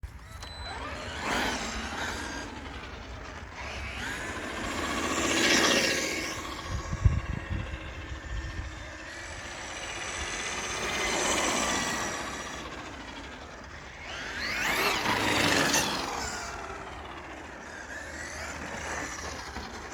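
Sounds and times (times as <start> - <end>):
rc truck drivetrain whining: 0.0 - 19.9.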